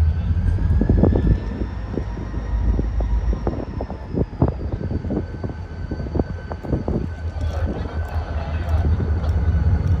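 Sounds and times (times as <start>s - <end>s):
diesel locomotive engine rumbling: 0.0s - 10.0s.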